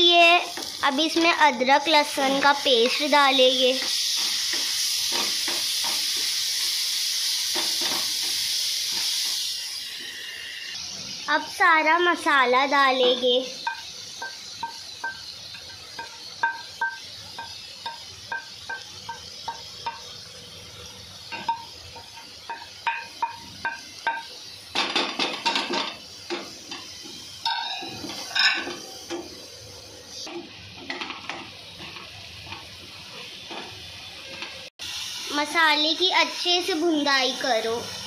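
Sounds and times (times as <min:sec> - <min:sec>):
masala sizzling in oil: 0:00.0 - 0:38.0.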